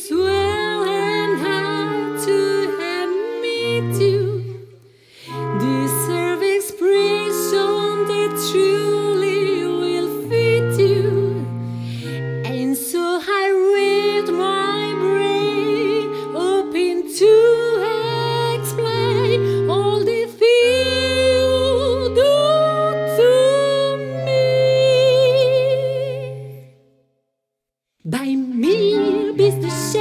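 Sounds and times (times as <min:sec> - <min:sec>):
clarinet ensemble playing: 0:00.0 - 0:26.6, 0:28.7 - 0:30.0.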